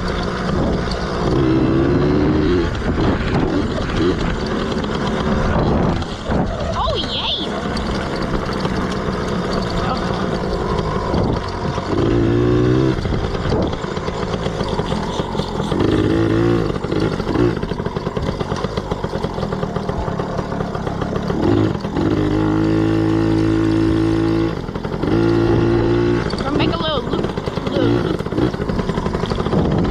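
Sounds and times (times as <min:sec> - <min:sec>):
two-stroke dirt bike engine revving: 0:00.0 - 0:29.9.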